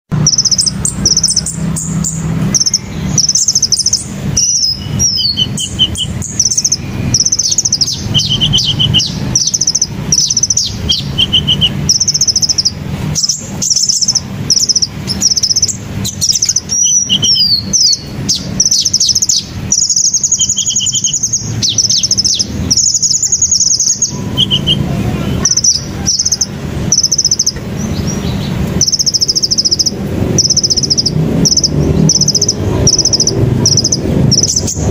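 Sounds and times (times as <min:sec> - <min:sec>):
birds trilling: 0:00.1 - 0:34.9
low steady rumble: 0:00.1 - 0:34.9.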